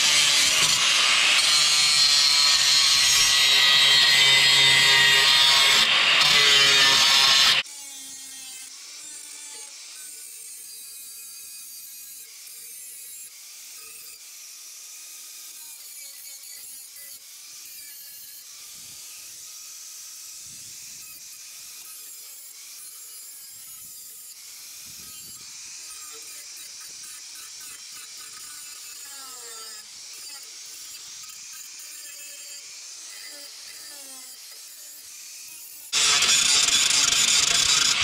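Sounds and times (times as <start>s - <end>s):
angle grinder grinding metal: 0.0s - 38.0s.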